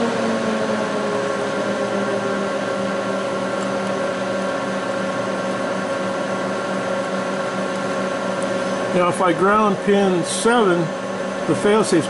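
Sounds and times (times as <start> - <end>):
electric fans running: 0.0 - 12.0.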